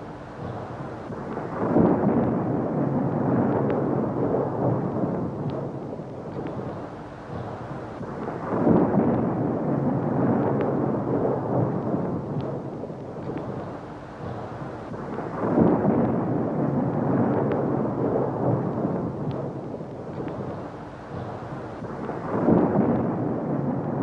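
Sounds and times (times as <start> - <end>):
thunder rumbling: 0.0 - 24.0.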